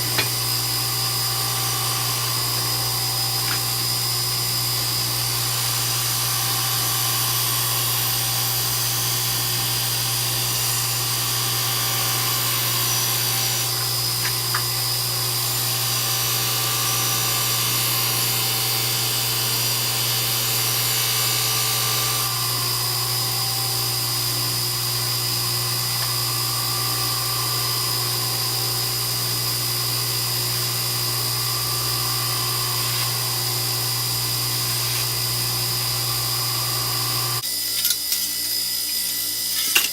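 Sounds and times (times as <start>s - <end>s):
electric grinder motor hum: 0.0s - 37.7s
knife blade grinding hiss and whine: 0.0s - 39.9s.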